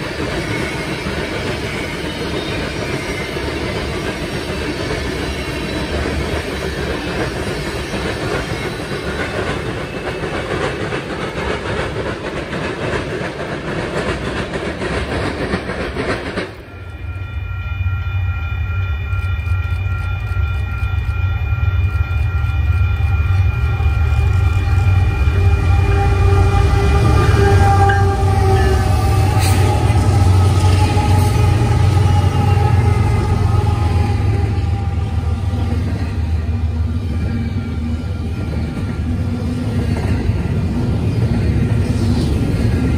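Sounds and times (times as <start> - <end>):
freight train clattering over rails: 0.0 - 17.0, 22.1 - 42.9.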